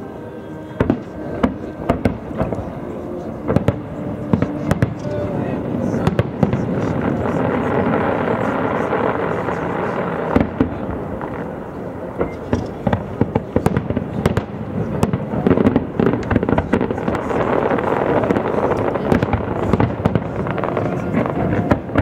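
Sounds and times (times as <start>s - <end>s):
continuous din: 0.0s - 22.0s
fireworks bursting: 0.0s - 22.0s.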